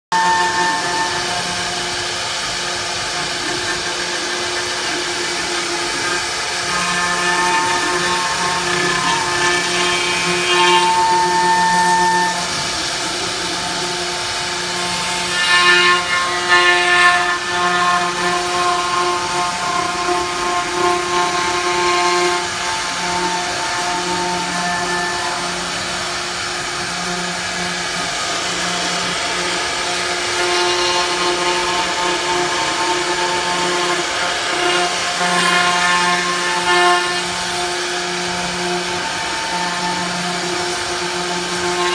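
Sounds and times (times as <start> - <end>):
router spindle motor whine: 0.1 - 41.9
foam cutting hiss: 0.2 - 41.9.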